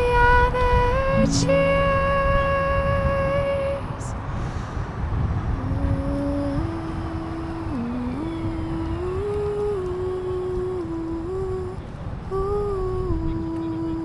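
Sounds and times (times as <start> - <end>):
slow wordless vocal melody: 0.0 - 4.6, 5.4 - 14.0.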